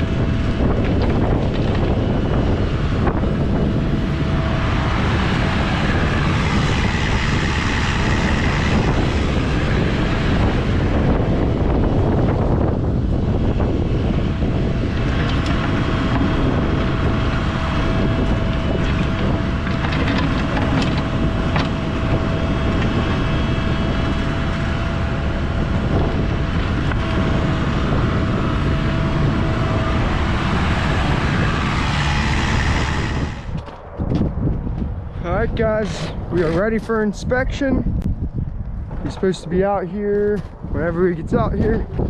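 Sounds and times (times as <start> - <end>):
thin steady whine: 0.0 - 37.8
diesel engine running: 0.0 - 42.0
wind on microphone: 0.0 - 42.0.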